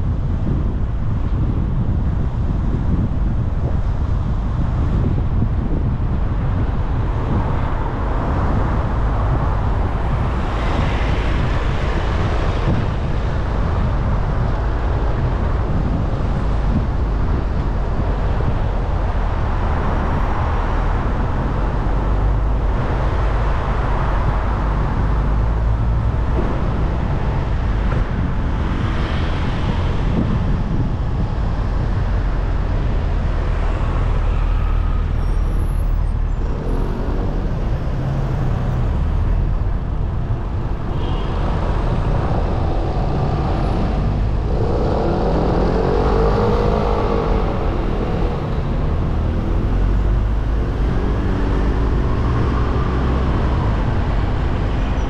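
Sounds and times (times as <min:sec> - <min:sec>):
car road rumble: 0:00.0 - 0:55.0
traffic noise: 0:00.0 - 0:55.0.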